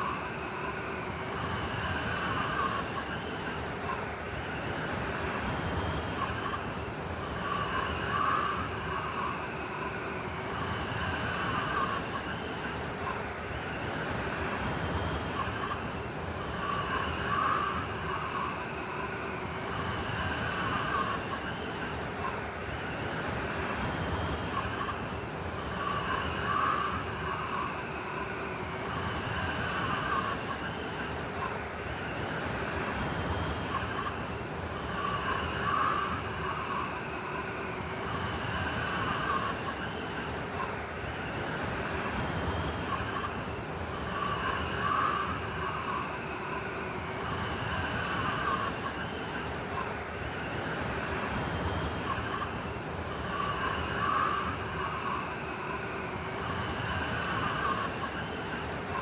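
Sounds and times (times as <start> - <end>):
blizzard wind whistling: 0.0 - 59.0.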